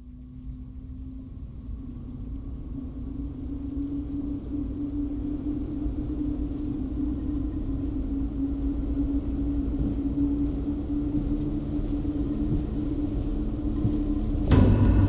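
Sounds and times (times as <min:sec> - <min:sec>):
deep steady rumble: 0:00.0 - 0:15.0
low drone tone: 0:00.0 - 0:15.0.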